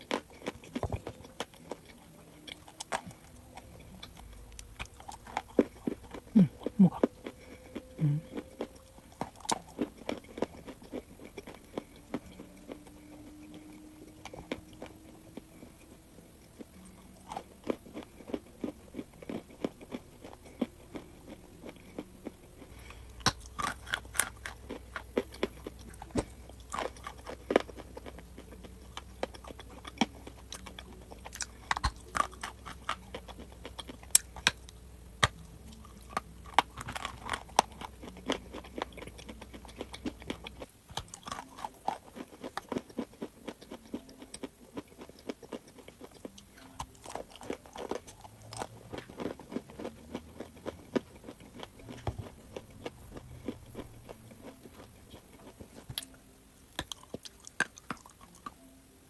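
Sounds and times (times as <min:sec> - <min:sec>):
chalk crunching while chewed: 0:00.0 - 0:56.2.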